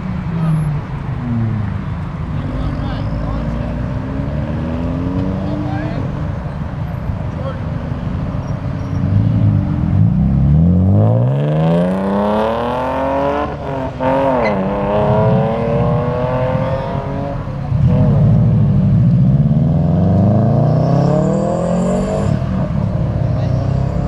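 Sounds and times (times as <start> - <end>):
car engines accelerating hard: 0.0 - 24.0.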